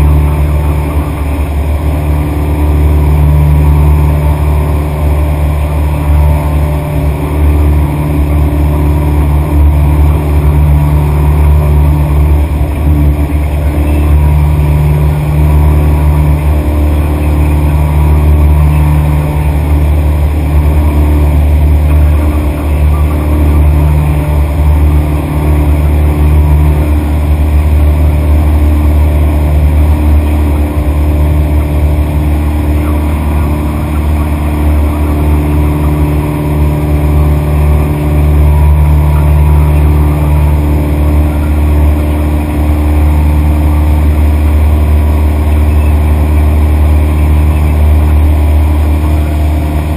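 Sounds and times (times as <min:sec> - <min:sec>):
light aircraft engine drone: 0:00.0 - 0:49.9.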